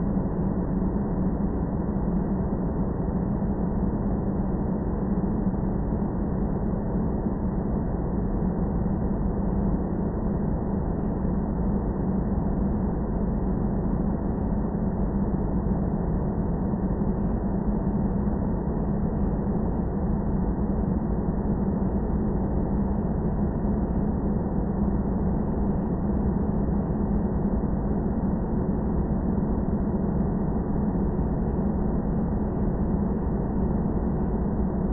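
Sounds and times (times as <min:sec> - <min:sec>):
airplane low drone: 0:00.0 - 0:34.9.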